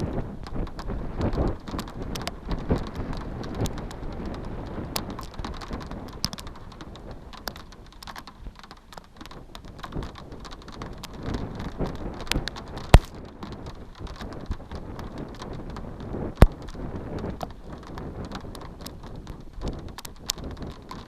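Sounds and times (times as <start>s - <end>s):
rain falling: 0.0s - 21.0s
raindrops ticking on hard surface: 0.0s - 21.0s
wind buffeting microphone: 0.0s - 21.0s.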